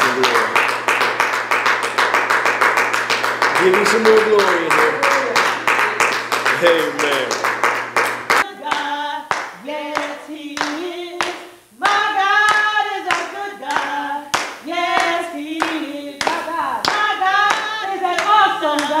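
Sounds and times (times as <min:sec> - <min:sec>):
gospel church singing: 0:00.0 - 0:19.0
hands clapping in time: 0:00.0 - 0:19.0.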